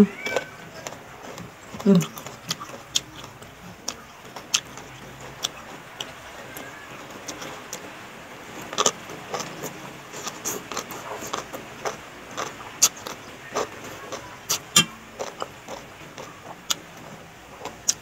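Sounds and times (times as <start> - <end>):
chewing and slurping noodles: 0.0 - 18.0
mouth clicks and smacks: 0.1 - 7.8, 8.6 - 16.9.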